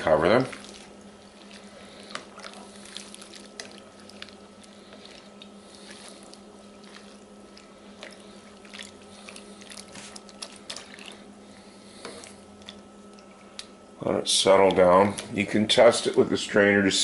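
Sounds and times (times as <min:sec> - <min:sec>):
wet sloshing and squishing: 0:00.0 - 0:13.8.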